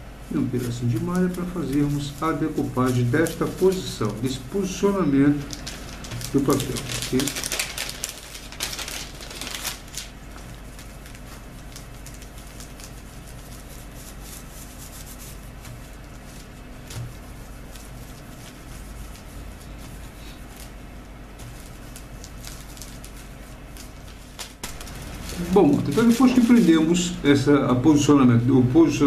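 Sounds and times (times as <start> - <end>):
mesh rubbing on plastic film: 0.0 - 27.2
low steady hum: 0.0 - 29.0.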